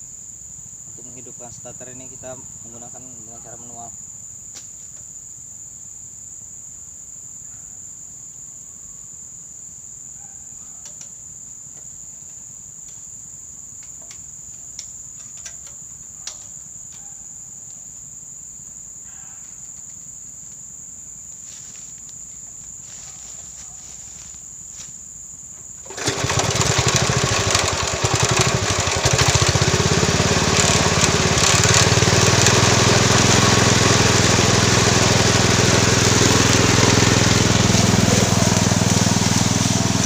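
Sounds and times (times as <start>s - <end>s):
crickets chirring: 0.0s - 40.0s.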